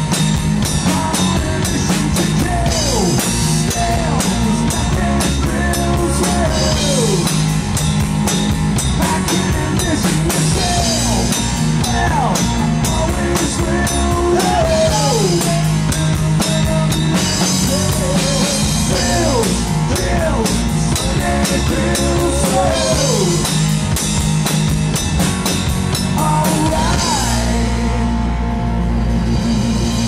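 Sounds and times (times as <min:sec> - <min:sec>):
drum kit beat: 0:00.0 - 0:27.9
bass guitar: 0:00.0 - 0:30.0
electric guitar: 0:00.0 - 0:30.0.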